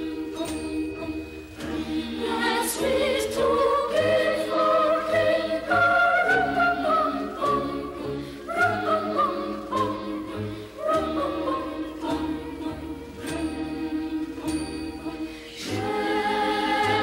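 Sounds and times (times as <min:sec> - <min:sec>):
choir singing slow melody: 0:00.0 - 0:17.0.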